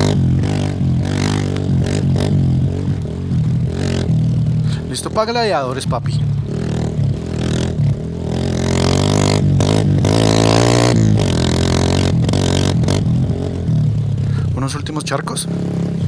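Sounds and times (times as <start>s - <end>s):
motorcycle engine revving: 0.0s - 16.0s
motorcycle rattling on rough ground: 0.0s - 16.0s.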